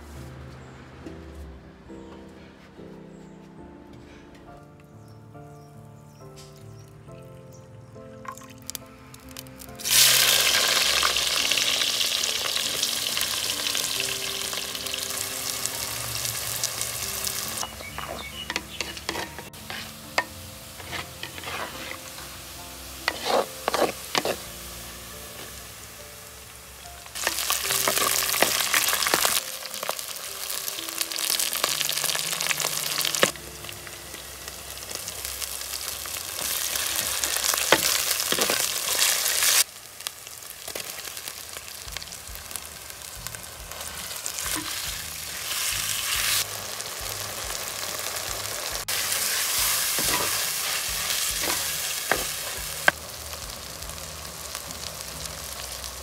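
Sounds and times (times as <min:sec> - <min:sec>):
vegetables sizzling in hot oil: 0:08.4 - 0:56.0.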